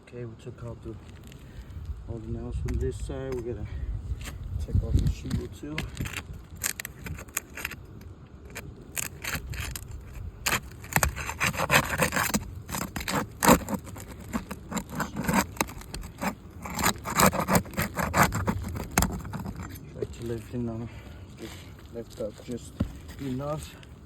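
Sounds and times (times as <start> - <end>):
tool scraping roof shingle: 3.3 - 24.0.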